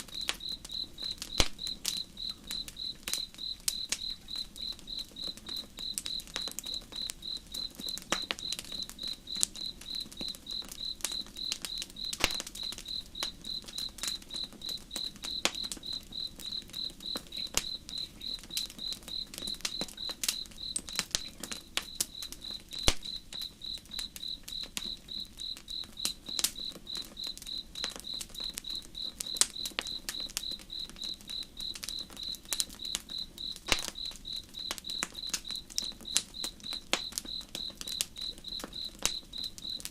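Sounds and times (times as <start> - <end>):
campfire crackling: 0.0 - 39.9
cricket chirping: 0.0 - 39.9.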